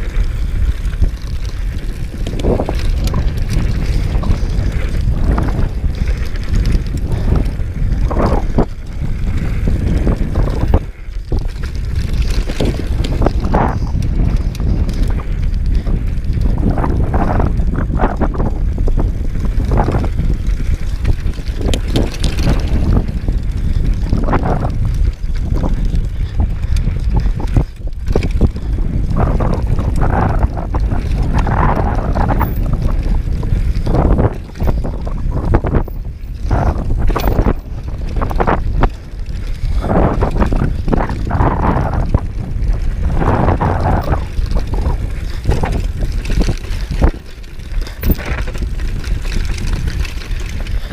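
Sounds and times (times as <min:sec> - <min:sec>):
bike clattering over rough ground: 0:00.0 - 0:50.9
tyres rumbling on dirt: 0:00.0 - 0:50.9
wind buffeting microphone: 0:00.0 - 0:50.9.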